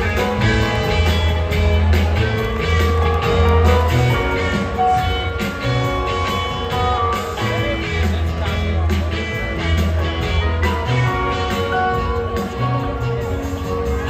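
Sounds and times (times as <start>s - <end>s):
electric bass notes: 0.0s - 14.0s
guitar: 0.0s - 14.0s
live rock band playing: 0.0s - 14.0s
steady drum beat: 0.0s - 14.0s.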